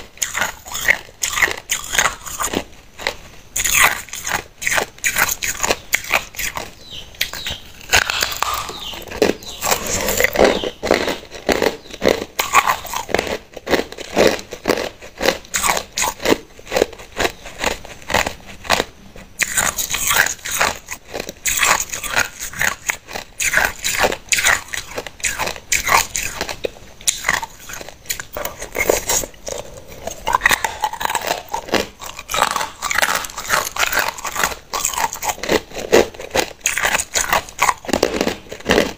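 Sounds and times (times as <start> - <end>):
ice crunching between teeth: 0.0 - 38.9.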